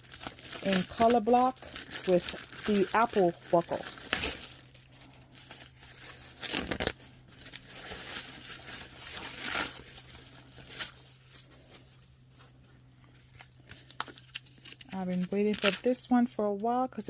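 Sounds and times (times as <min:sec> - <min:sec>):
packaging crinkling and rustling: 0:00.0 - 0:16.2.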